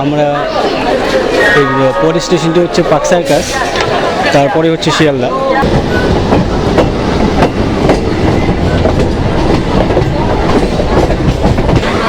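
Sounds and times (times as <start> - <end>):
train rumbling: 0.4 - 12.0.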